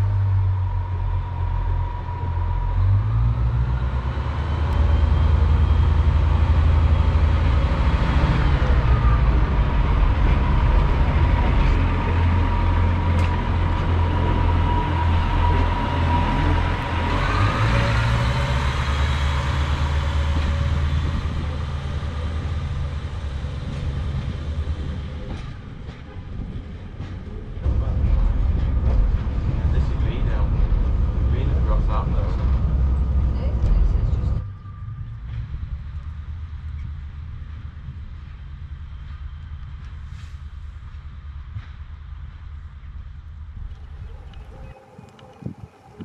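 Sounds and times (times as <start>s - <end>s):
diesel train engine running hard: 0.0s - 46.0s.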